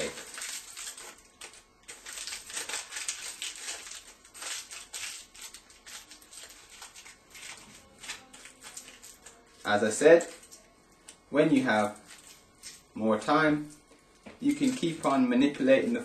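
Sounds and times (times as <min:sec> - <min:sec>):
aluminium foil crinkling: 0:00.0 - 0:13.0, 0:13.6 - 0:16.0.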